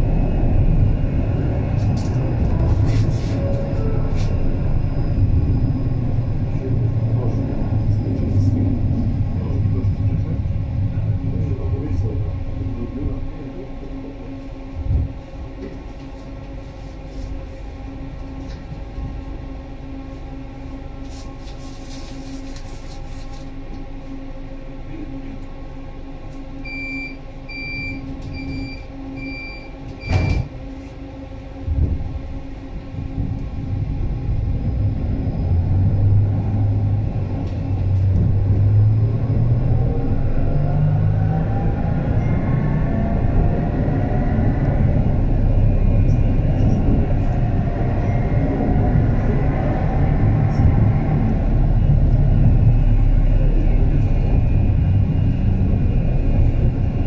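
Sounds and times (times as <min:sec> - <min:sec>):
low tram drive hum: 0:00.0 - 0:57.0
tram electrical hum: 0:00.0 - 0:57.0.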